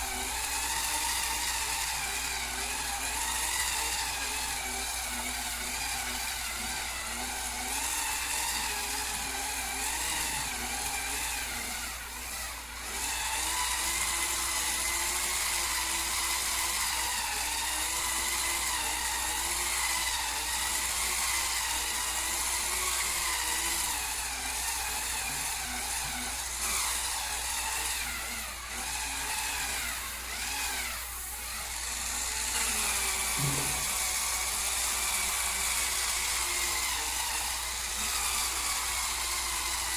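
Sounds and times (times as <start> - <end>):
spin scrubber motor whining: 0.0 - 39.9.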